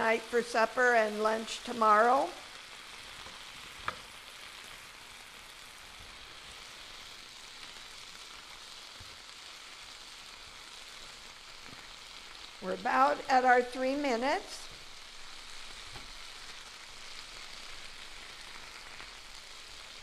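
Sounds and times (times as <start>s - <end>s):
food sizzling in a skillet: 0.0s - 20.0s.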